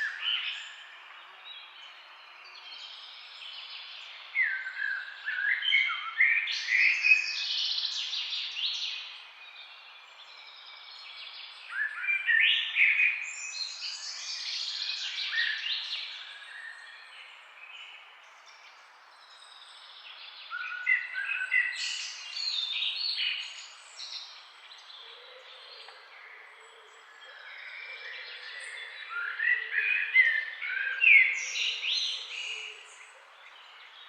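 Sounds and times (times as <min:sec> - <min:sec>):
songbirds chirping and singing: 0:00.0 - 0:34.0.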